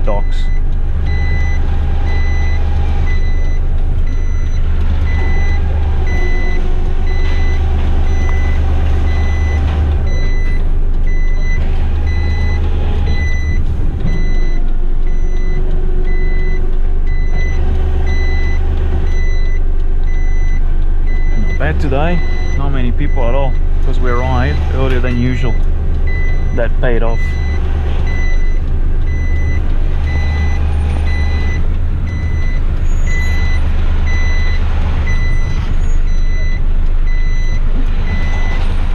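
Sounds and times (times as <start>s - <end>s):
reversing alarm beeps: 0.0s - 38.8s
truck engine running: 0.0s - 38.9s.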